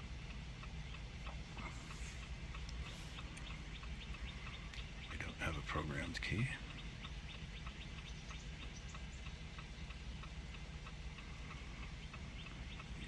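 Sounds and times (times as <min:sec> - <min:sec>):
hazard light flasher ticking: 0:00.0 - 0:13.0
low background rumble: 0:00.0 - 0:13.0.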